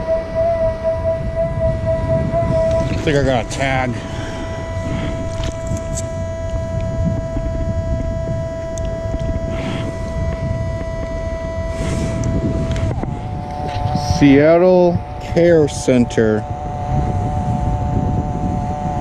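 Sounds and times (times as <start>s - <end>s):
low rumble: 0.0s - 19.0s
metal detector steady tone: 0.0s - 19.0s.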